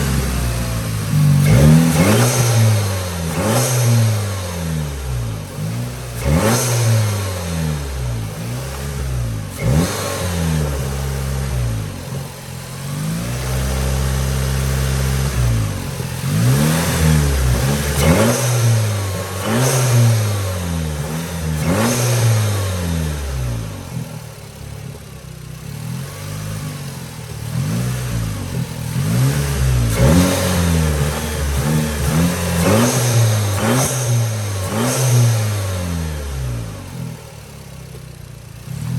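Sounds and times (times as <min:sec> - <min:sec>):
car engine revving: 0:00.0 - 0:38.9
exhaust crack: 0:00.0 - 0:38.9.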